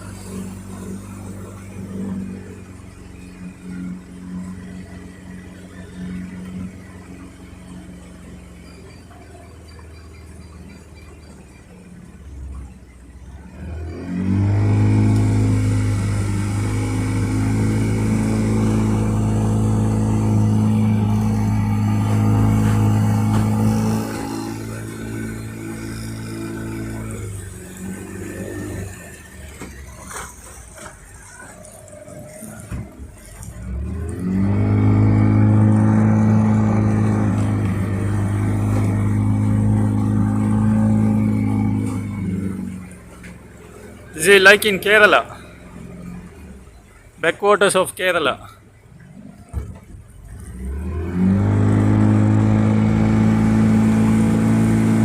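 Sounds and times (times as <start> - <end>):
boat engine revving: 0.0 - 55.0.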